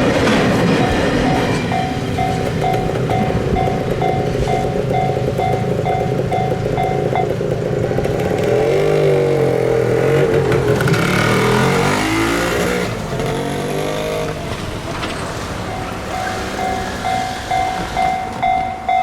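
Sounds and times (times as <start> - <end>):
level-crossing warning bell: 0.0 - 11.8, 14.0 - 19.0
vehicle engine passing: 1.8 - 18.6.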